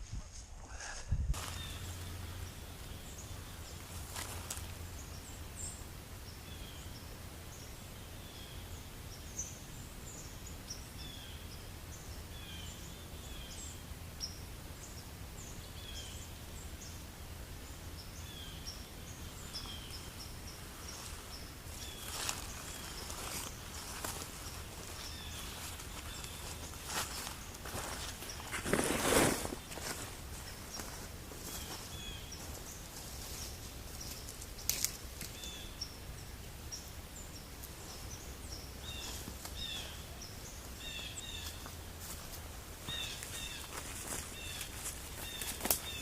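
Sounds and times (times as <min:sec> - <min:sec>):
outdoor background hiss: 0:00.0 - 0:46.0.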